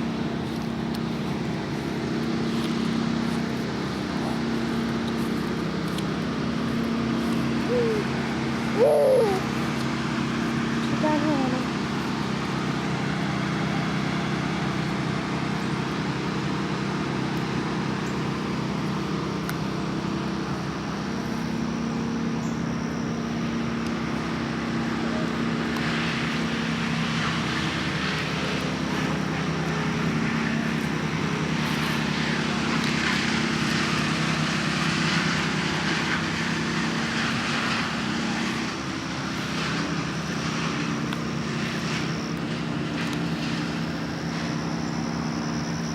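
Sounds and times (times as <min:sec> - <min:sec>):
engine-like drone: 0:00.0 - 0:45.9.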